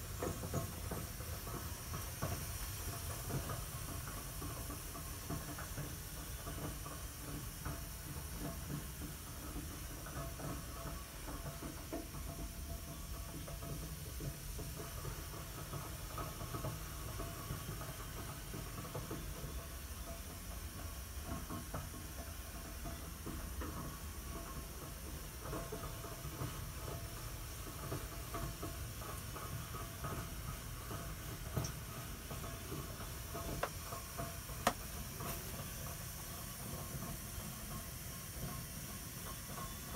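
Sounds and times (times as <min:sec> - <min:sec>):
boiler hissing and rumbling: 0:00.0 - 0:39.9
faint ticks and crackles: 0:00.0 - 0:39.9.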